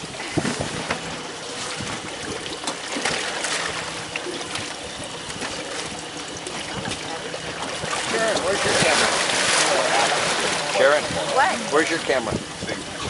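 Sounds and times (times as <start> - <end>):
water sloshing against boat: 0.0 - 13.0.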